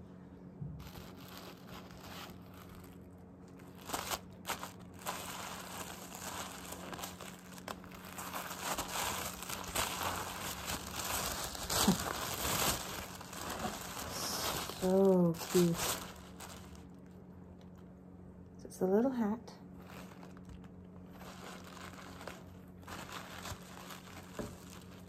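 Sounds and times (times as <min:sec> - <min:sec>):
tissue paper crinkling: 0:00.8 - 0:17.1, 0:19.7 - 0:25.0.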